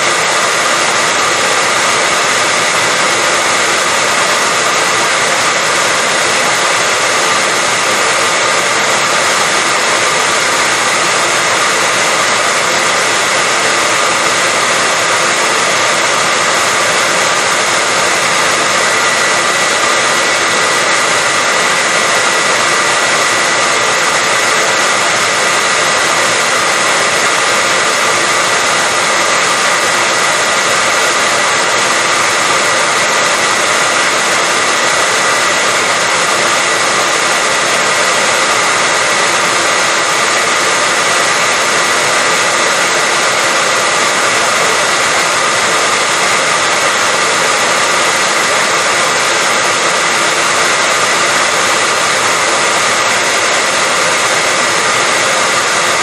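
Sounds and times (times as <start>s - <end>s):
hair dryer whooshing with high whine: 0.0s - 56.0s.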